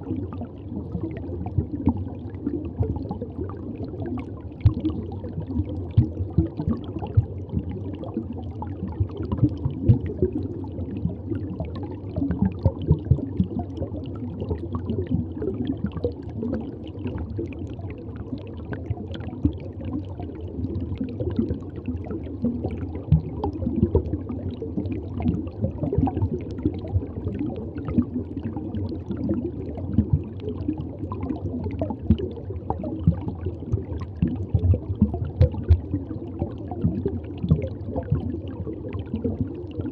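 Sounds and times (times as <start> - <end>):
aquarium water gurgling: 0.0 - 39.9.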